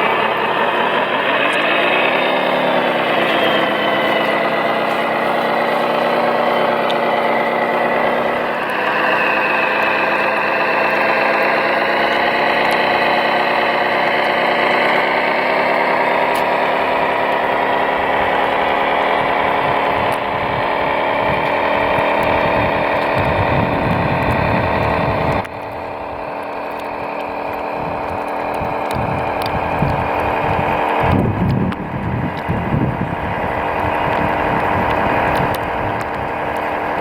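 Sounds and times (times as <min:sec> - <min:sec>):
model truck motor drone: 0:00.0 - 0:37.0.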